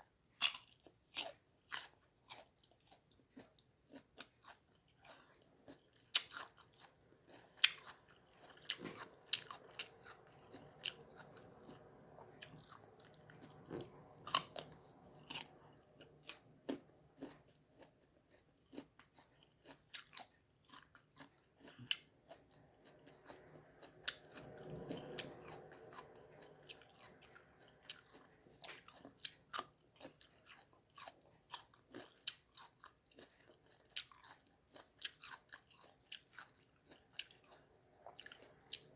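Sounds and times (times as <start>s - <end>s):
wet chewing clicks: 1.2s - 38.9s.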